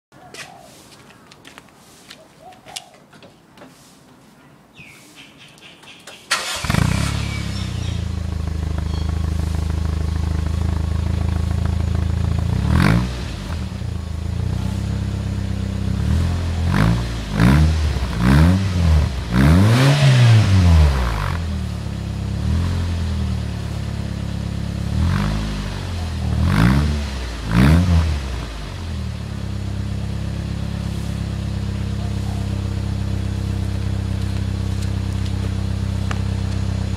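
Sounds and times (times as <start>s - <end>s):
car engine revving: 6.3s - 36.9s
car engine starting and idling: 6.3s - 36.9s.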